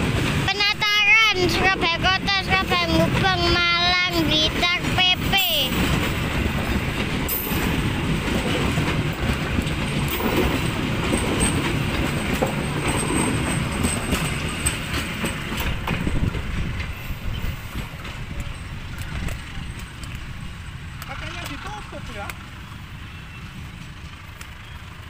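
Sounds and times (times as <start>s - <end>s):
train rumble: 0.0s - 25.0s
train wheels clattering on track: 0.0s - 25.0s.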